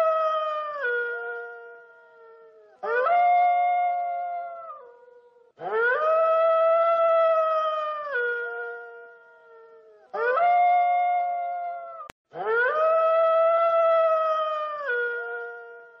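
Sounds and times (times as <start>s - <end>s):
wolf howling: 0.0s - 16.0s.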